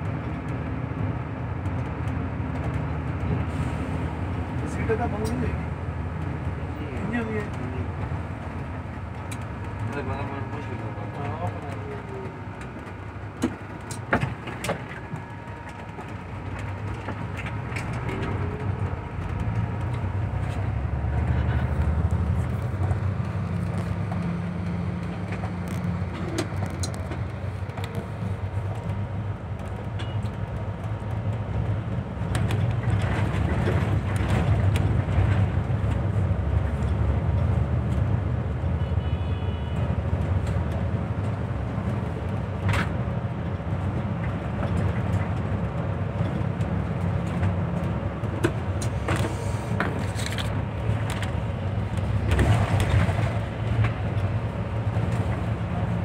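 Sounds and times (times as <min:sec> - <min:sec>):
bus engine and road noise: 0:00.0 - 0:56.0.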